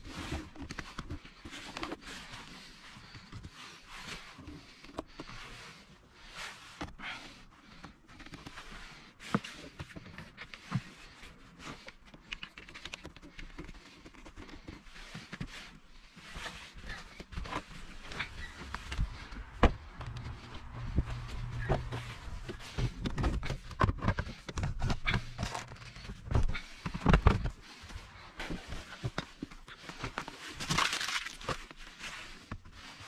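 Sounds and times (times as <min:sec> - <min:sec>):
rustling of trim and carpet: 0:00.0 - 0:33.0.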